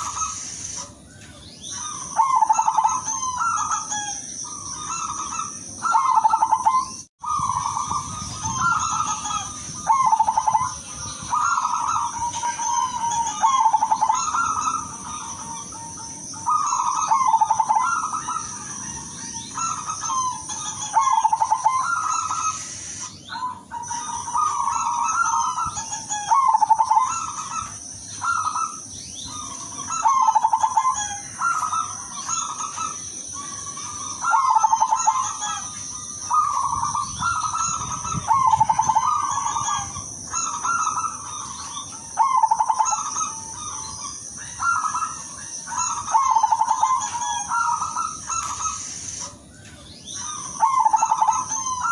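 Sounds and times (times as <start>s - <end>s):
dove cooing: 0.0s - 22.6s, 23.2s - 51.9s.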